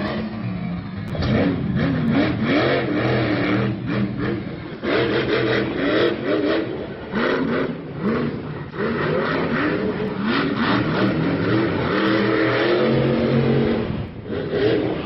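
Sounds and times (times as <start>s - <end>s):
vehicle engines revving hard: 0.0s - 15.0s.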